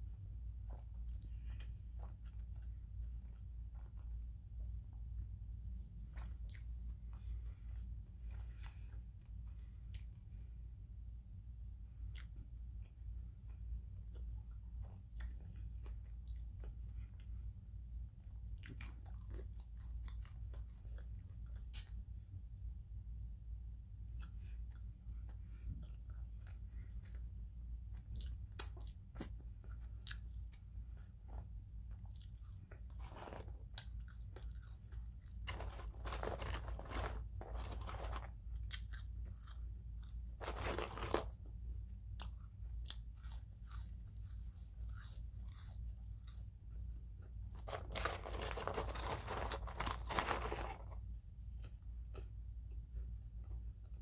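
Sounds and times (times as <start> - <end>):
person chewing fries: 0.4 - 10.3, 12.0 - 22.2, 24.0 - 54.0.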